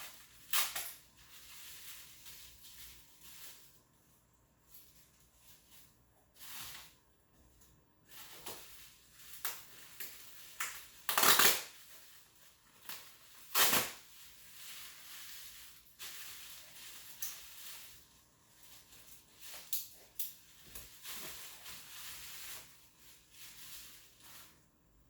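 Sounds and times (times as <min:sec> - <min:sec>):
packaging rustling and crinkling: 0:00.0 - 0:04.0, 0:08.0 - 0:24.8.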